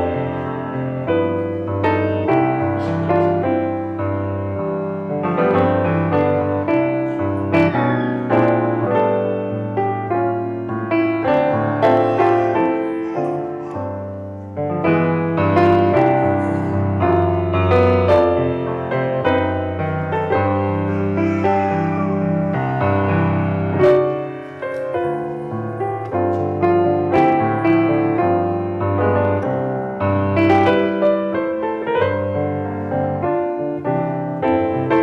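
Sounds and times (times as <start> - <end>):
solo piano playing chords: 0.0 - 35.0.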